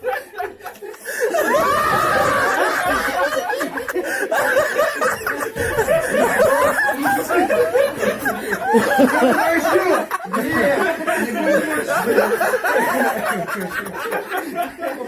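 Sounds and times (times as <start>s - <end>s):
men laughing hard: 0.0s - 15.0s.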